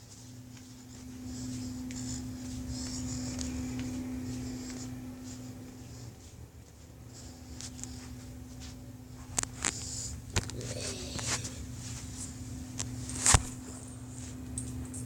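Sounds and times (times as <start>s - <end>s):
faint scratchy rustling: 0.0s - 14.4s
steady low hum: 0.0s - 15.0s.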